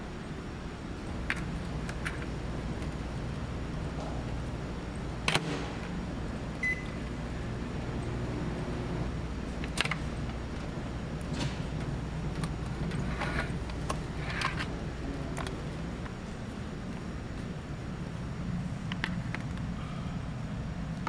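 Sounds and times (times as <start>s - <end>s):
ship engines droning: 0.0s - 21.0s.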